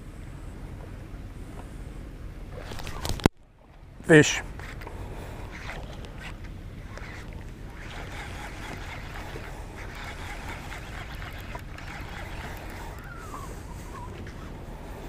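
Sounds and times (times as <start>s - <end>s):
wind buffeting microphone: 0.0s - 15.0s
water splashing: 2.5s - 15.0s.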